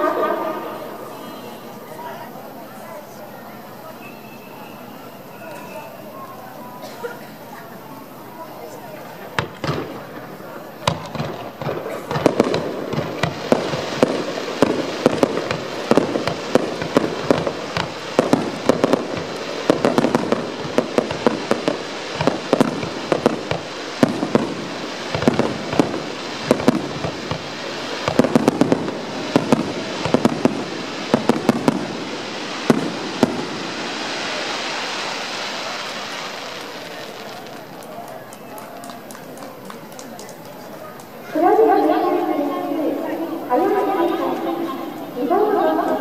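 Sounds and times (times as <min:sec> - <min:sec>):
fireworks bangs: 0:00.0 - 0:46.0
steady hiss: 0:00.0 - 0:46.0.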